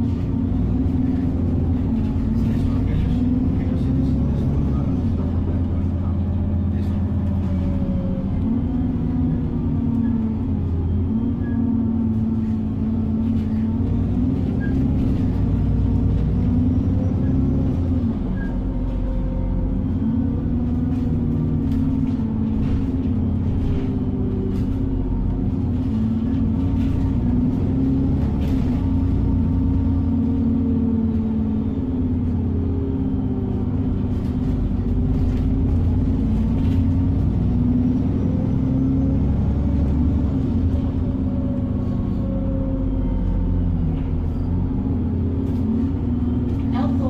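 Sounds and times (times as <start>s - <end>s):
bus engine rumbling: 0.0s - 47.0s.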